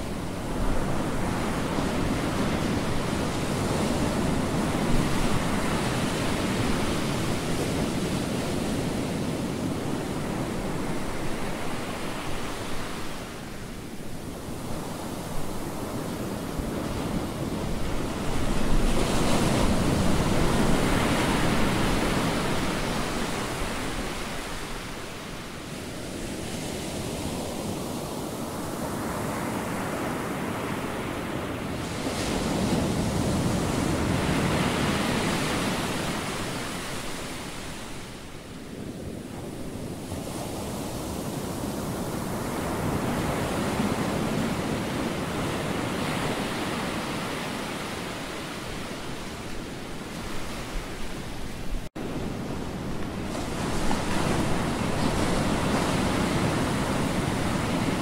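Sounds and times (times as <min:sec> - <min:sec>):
ocean surf breaking on shore: 0:00.0 - 0:58.0.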